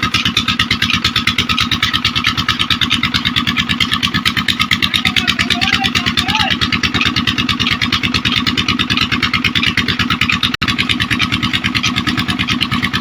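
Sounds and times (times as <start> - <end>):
engine running with fast pulse: 0.0 - 13.0.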